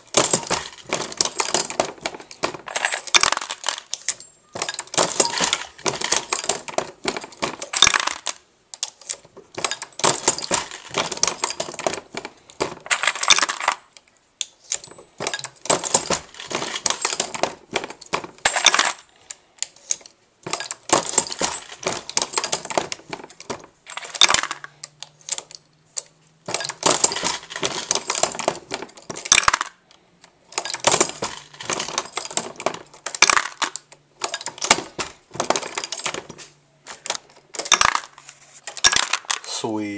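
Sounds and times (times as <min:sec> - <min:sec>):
reloading press metallic clicks: 0:00.0 - 0:12.0, 0:12.8 - 0:39.5.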